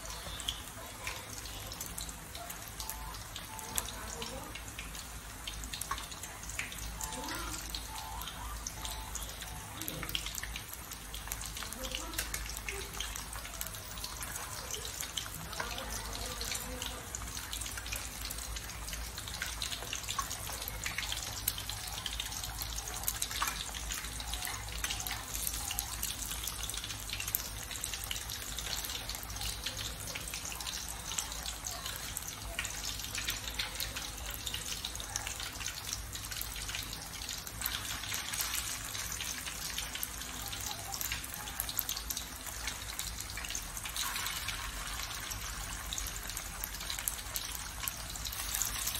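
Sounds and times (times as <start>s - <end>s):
fish cakes frying in oil: 0.0s - 48.9s.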